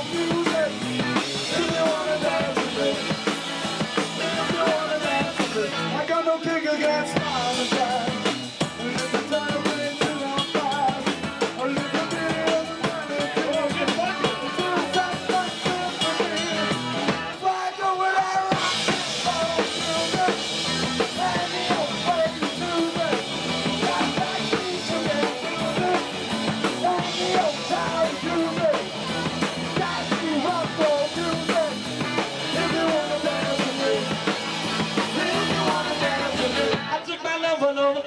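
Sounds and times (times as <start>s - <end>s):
drum kit: 0.0s - 37.0s
rock band playing: 0.0s - 37.3s.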